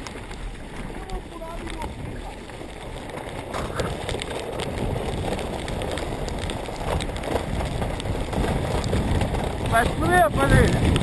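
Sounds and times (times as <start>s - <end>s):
bike frame rattling: 0.0s - 11.0s
wind and tyre noise: 0.0s - 11.0s.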